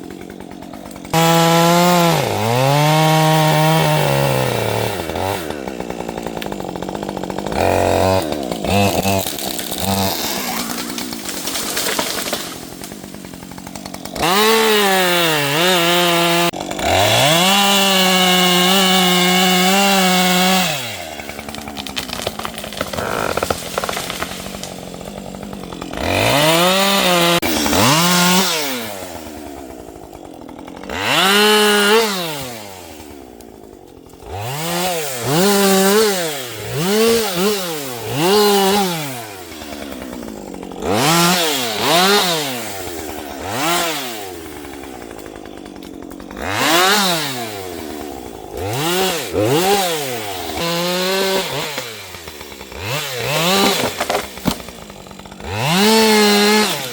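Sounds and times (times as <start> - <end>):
chainsaw idling and revving: 0.0 - 56.9.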